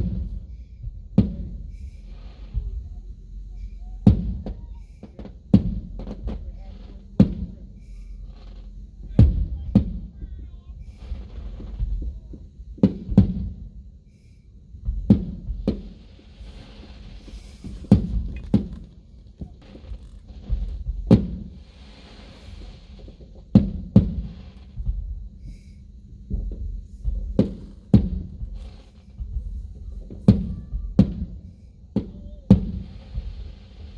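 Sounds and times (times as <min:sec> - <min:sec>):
fireworks booming: 0:00.0 - 0:33.9
fireworks crackling hiss: 0:00.0 - 0:33.9.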